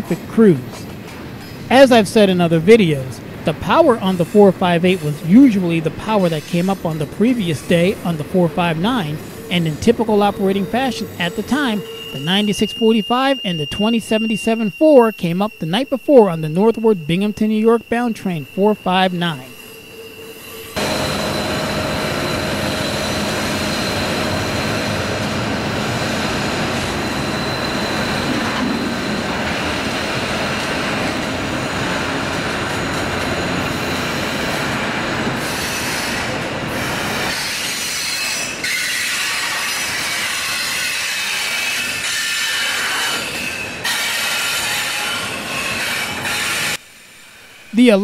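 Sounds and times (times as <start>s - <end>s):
freight cars rattling on rails: 0.0s - 12.8s, 20.7s - 46.7s
diesel locomotives running: 0.0s - 46.8s
high wheel squeal: 3.6s - 46.8s.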